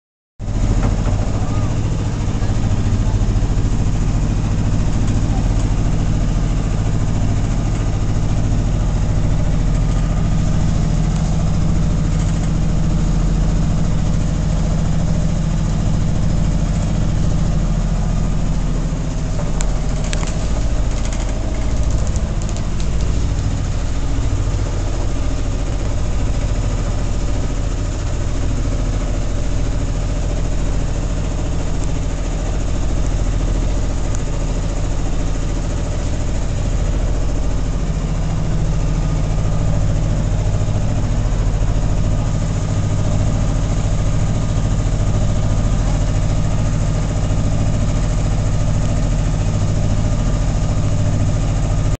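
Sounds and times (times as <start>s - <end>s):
boat engine humming: 0.4s - 51.9s.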